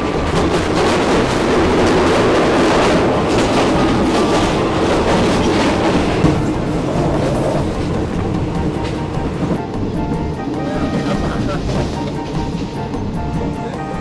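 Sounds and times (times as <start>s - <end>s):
clattering knocks: 0.0s - 13.4s
train wheels roaring on rails: 0.0s - 14.0s.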